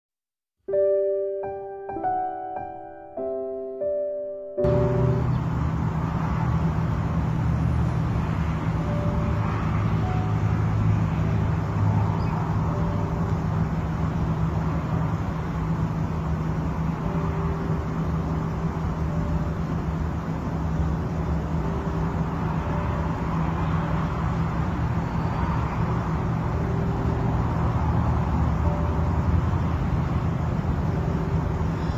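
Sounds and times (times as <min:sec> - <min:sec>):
distant city traffic hum: 0:00.8 - 0:31.9.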